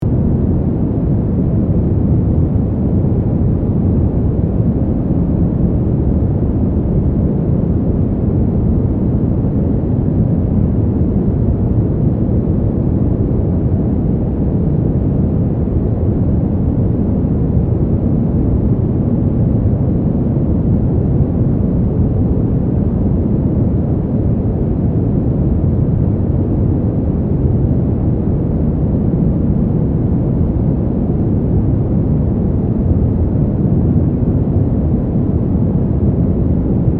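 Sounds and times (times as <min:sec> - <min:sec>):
deep steady wind: 0:00.0 - 0:36.9.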